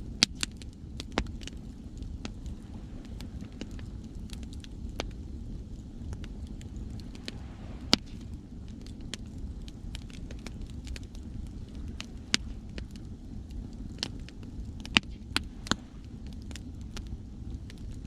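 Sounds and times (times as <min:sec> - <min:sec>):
wood fire crackling: 0:00.0 - 0:18.0
sea waves rumbling: 0:00.5 - 0:18.0.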